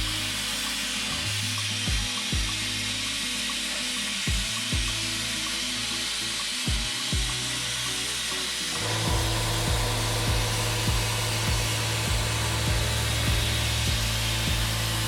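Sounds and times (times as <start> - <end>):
plasma cutter hissing arc: 0.0 - 15.0.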